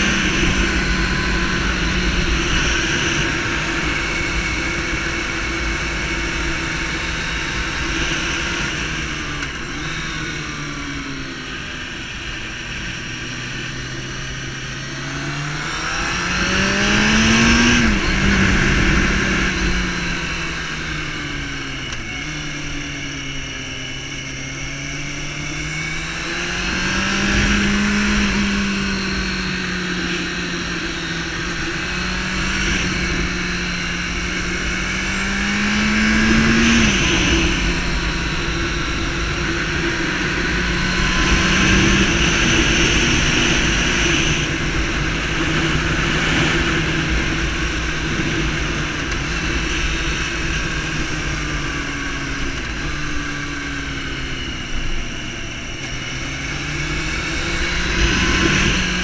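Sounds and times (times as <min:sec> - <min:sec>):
wind noise: 0:00.0 - 0:24.0, 0:24.7 - 0:59.0
motorcycle engine revving: 0:00.0 - 0:59.0.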